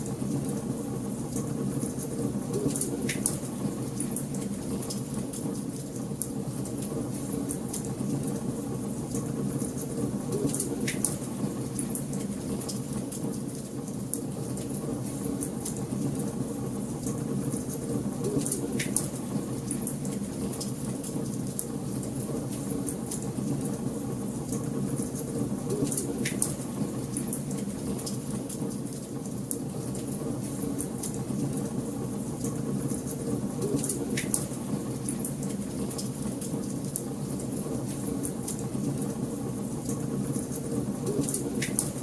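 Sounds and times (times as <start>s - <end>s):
fire rumbling in fireplace: 0.0s - 42.0s.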